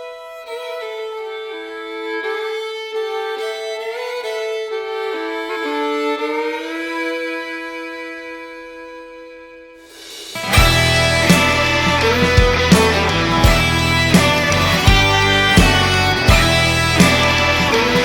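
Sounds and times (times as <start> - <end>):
slow fiddle melody: 0.0 - 18.0.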